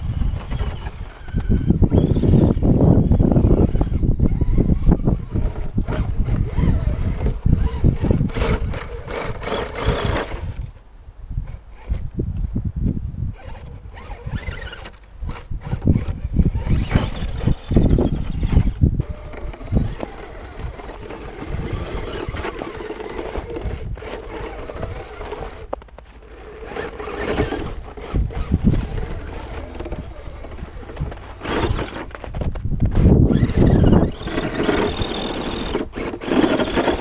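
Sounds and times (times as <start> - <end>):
rc truck motor whining: 0.0 - 10.8, 13.3 - 37.0
wind buffeting microphone: 0.0 - 37.0.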